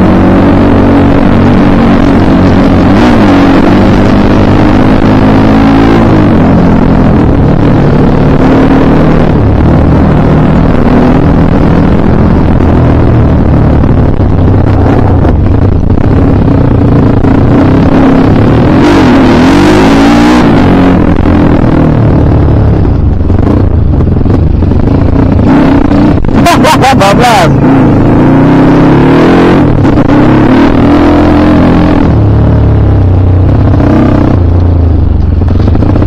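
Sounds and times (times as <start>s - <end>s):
dirt bike engine revving: 0.0s - 34.6s.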